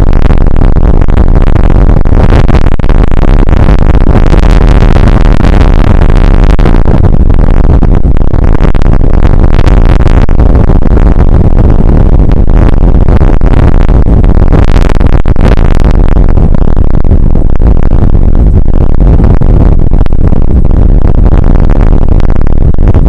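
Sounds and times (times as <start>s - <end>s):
distorted rain and wind rumble: 0.0s - 23.0s.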